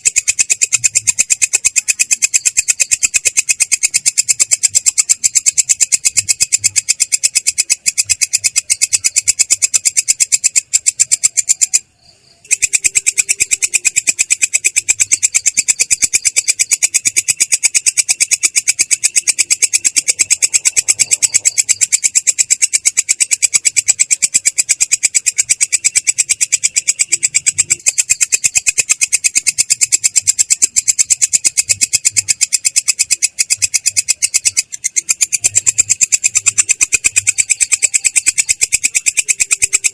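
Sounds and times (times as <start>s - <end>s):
katydid rasping trill: 0.0s - 39.9s.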